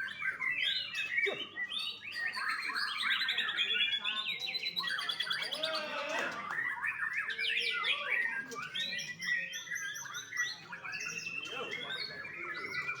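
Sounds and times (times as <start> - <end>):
bird singing whistles and chirps: 0.0 - 5.6, 6.4 - 13.0.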